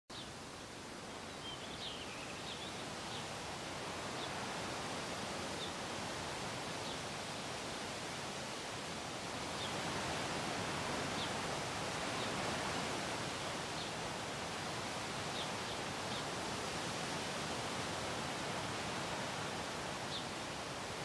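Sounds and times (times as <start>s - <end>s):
wind in leaves: 0.1s - 21.0s.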